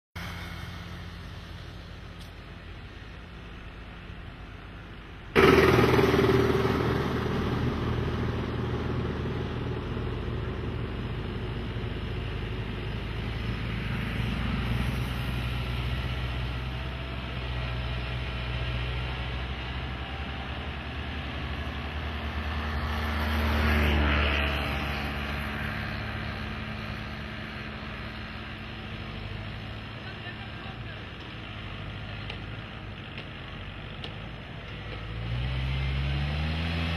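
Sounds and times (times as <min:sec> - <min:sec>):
engine running: 0:00.2 - 0:36.9.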